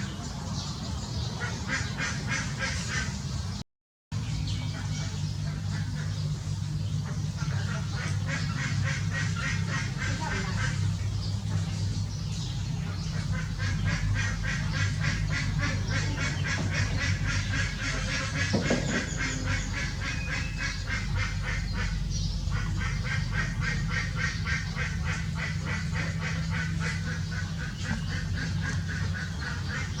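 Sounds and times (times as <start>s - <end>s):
steady low hum: 0.0s - 30.0s
birds calling short notes: 4.2s - 30.0s.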